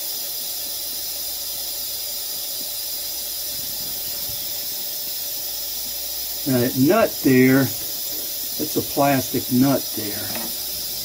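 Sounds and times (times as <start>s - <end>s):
tap water running down drain: 0.0s - 11.0s.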